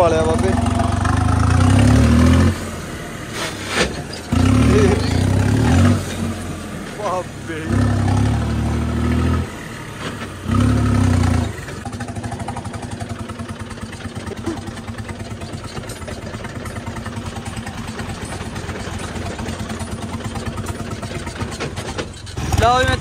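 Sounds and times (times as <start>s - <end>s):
tractor diesel engine chugging: 0.0s - 23.0s.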